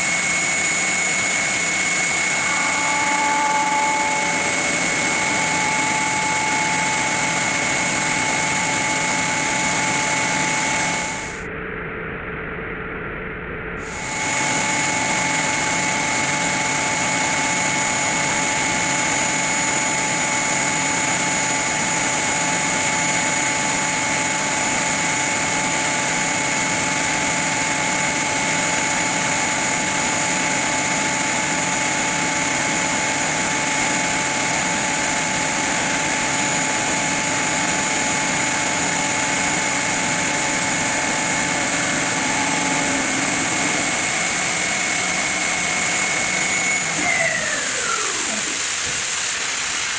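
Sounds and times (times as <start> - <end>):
milling machine running: 0.0 - 11.4, 13.8 - 49.9
steady whining tones: 0.0 - 11.5, 13.8 - 49.9.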